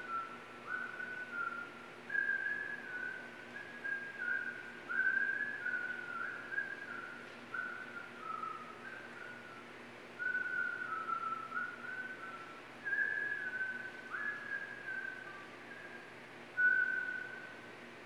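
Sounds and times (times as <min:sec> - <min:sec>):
person whistling a tune: 0:00.0 - 0:17.6
faint low hum: 0:00.0 - 0:18.0.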